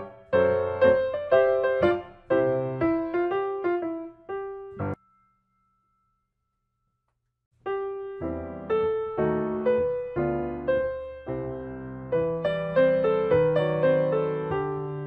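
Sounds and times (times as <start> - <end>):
keyboard melody: 0.0 - 5.0, 7.6 - 15.0.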